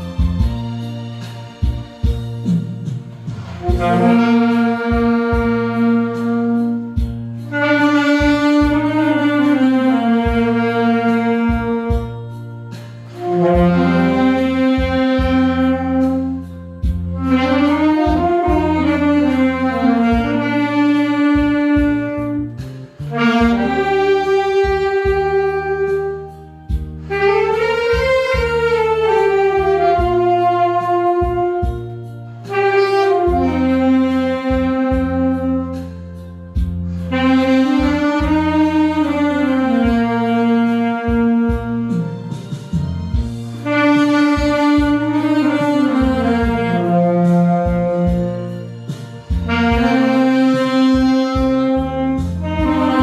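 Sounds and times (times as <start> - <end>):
saxophone melody: 0.0 - 53.0.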